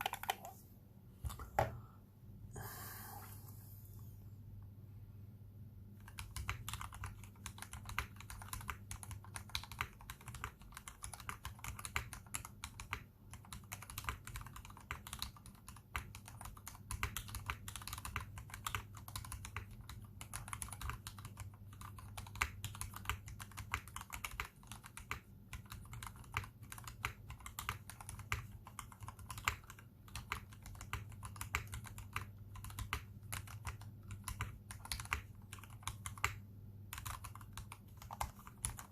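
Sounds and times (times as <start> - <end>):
mechanical keyboard typing: 0.0 - 0.5, 6.0 - 38.9.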